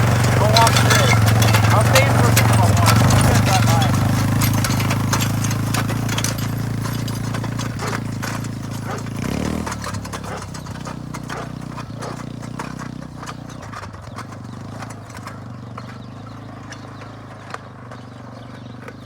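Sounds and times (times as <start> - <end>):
clicking and clattering: 0.0 - 18.0
atv engine running: 0.0 - 19.0.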